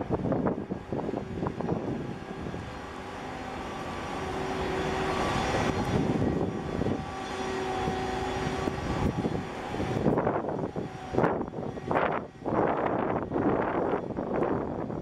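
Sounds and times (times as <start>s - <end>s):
wind noise: 0.0s - 2.8s, 4.8s - 15.0s
diesel engine drone: 0.0s - 15.0s.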